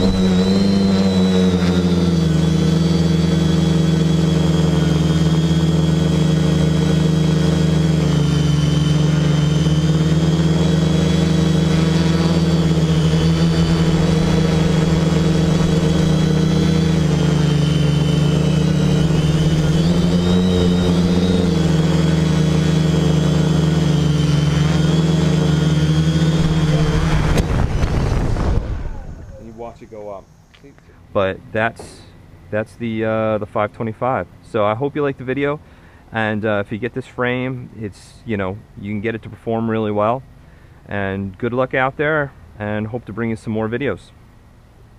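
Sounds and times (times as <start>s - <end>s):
quadcopter motors droning: 0.0s - 37.7s.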